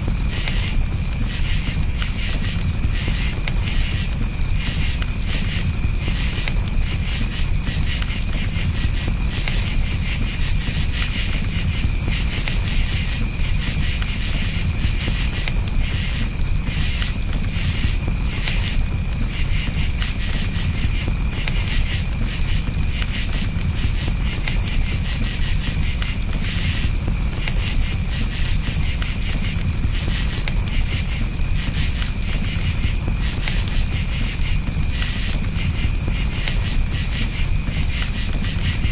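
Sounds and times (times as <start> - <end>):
campfire rumble and crackles: 0.0 - 38.9
crickets chirping: 0.0 - 38.9.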